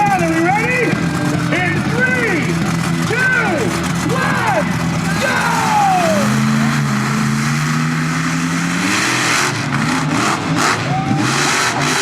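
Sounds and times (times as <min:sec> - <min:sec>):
truck engine at full throttle: 0:00.0 - 0:12.0.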